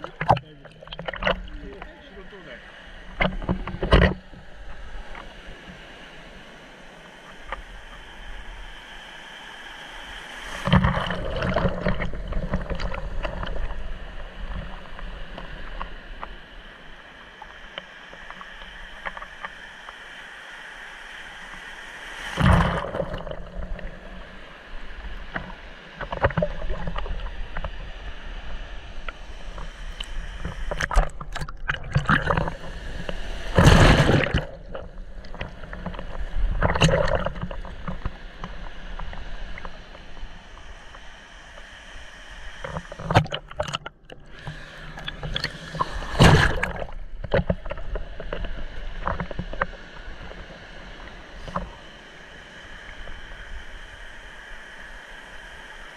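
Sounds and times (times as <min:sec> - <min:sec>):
muffled water sloshing and gurgling: 0:00.0 - 0:20.3, 0:21.2 - 0:55.9
waves rushing over camera: 0:00.0 - 0:55.9.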